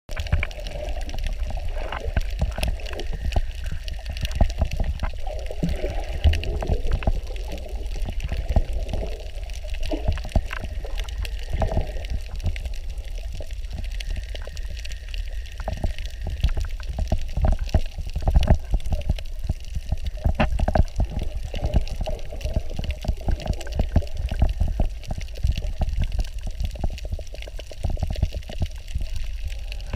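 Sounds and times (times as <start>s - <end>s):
crackling clicks: 0.1s - 29.9s
muffled underwater rumble: 0.1s - 29.9s.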